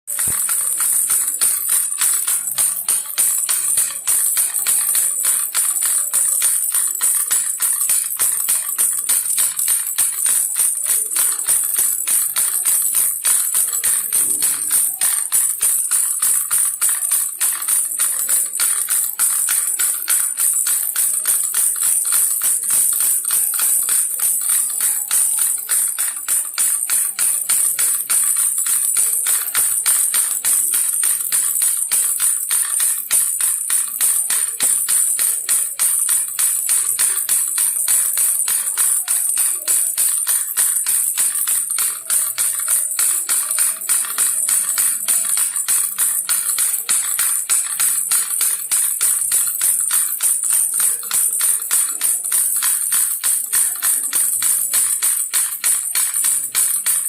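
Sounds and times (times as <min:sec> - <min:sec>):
baby rattle shaken: 0:00.1 - 0:57.0.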